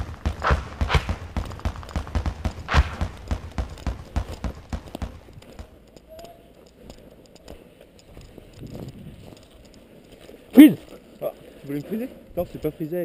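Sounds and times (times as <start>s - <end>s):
running footsteps: 0.0s - 12.7s.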